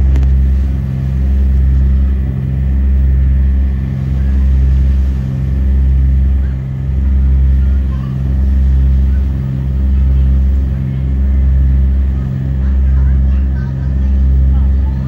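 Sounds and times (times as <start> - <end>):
ship engine humming: 0.0 - 15.0.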